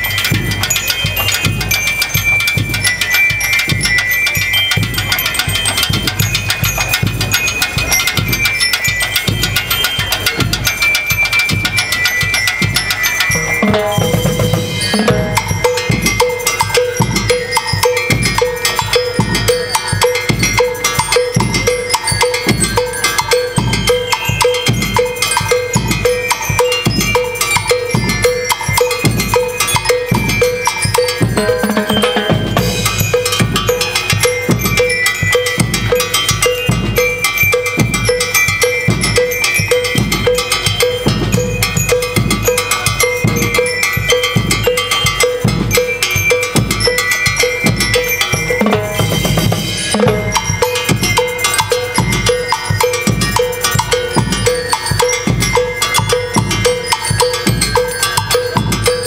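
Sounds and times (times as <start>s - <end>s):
drum band playing a steady beat: 0.0s - 59.0s.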